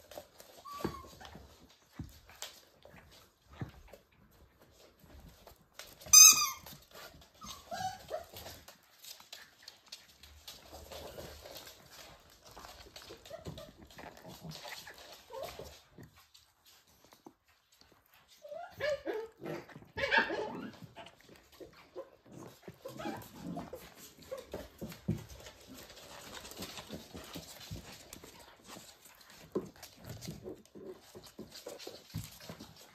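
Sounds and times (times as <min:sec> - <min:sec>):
paws and toys clicking on floor: 0:00.0 - 0:32.9
puppies whining and yipping: 0:00.1 - 0:04.4, 0:05.0 - 0:09.4, 0:10.4 - 0:32.9.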